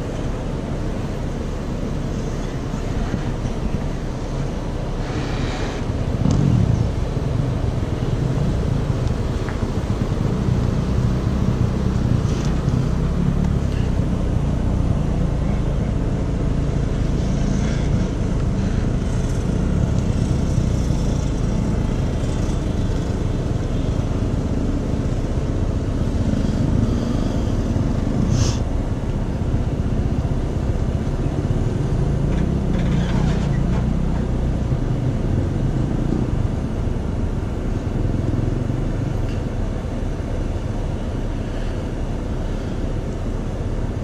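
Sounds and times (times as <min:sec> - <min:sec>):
engines rumbling: 0:00.0 - 0:44.0.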